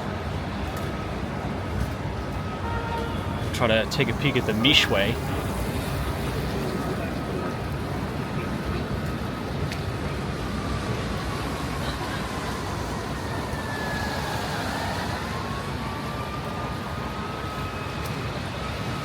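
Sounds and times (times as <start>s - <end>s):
street traffic noise: 0.0s - 19.0s
distant siren wailing: 0.9s - 19.0s.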